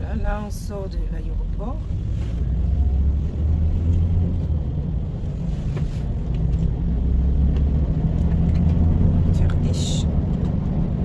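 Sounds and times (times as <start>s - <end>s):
van driving rumble: 0.0s - 11.0s.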